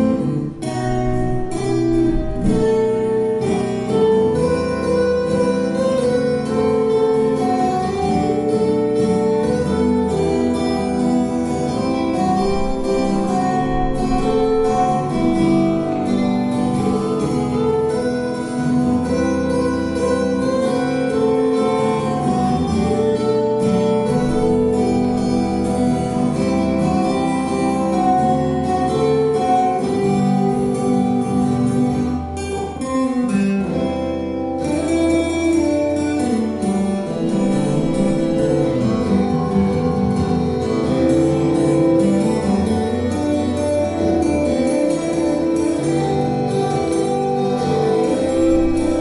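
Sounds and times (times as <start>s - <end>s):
acoustic guitars playing duet: 0.0s - 49.0s.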